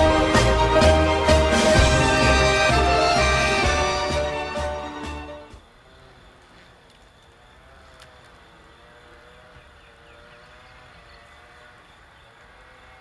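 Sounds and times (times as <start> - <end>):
distant engine hum: 0.0 - 13.0.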